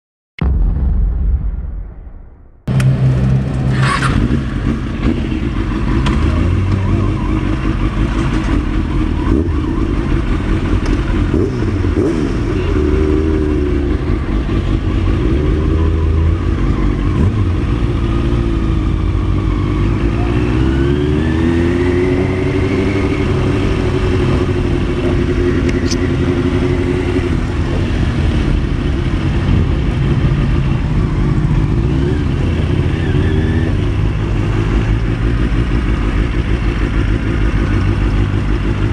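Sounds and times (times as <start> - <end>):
motorcycle engine revving: 2.7 - 38.9
other motorcycle engines: 2.7 - 38.9.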